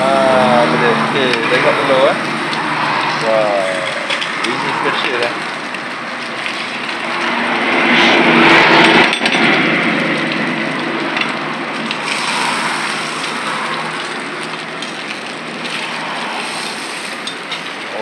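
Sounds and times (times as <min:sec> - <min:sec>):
food sizzling on griddle: 0:00.0 - 0:18.0.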